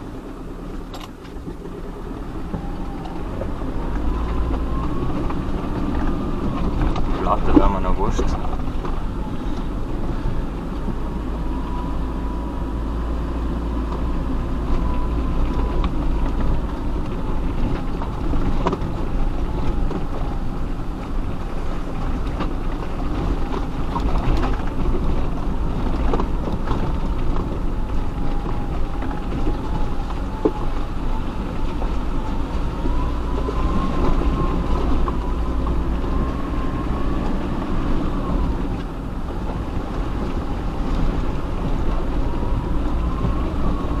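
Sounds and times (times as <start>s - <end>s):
engine and tyre rumble: 0.0s - 44.0s
body rattles and knocks: 0.8s - 44.0s
wavering whine: 1.4s - 44.0s.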